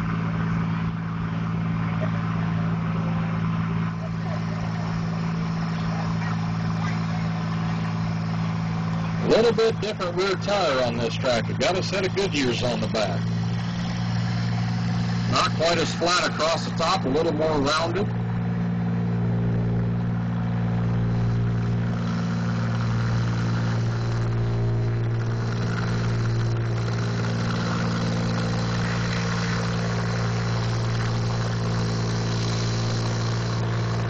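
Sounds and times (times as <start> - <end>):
tractor engine under heavy load: 0.0 - 34.0.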